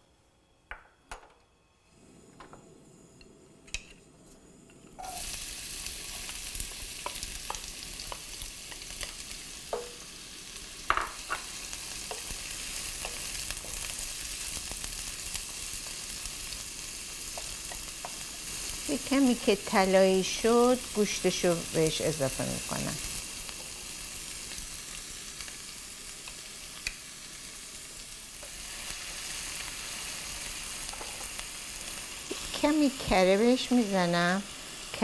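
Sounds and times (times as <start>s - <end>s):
onion sizzling in hot oil: 4.9s - 35.0s.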